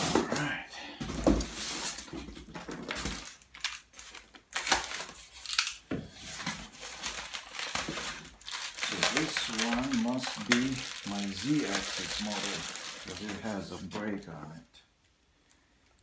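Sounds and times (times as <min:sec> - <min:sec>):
scraping and rustling of packaging: 0:00.0 - 0:14.2.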